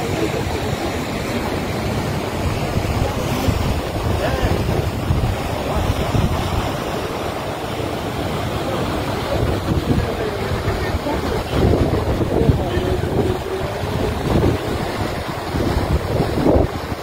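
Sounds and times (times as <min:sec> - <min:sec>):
river rushing: 0:00.0 - 0:17.0
wind rumbling on microphone: 0:00.0 - 0:17.0.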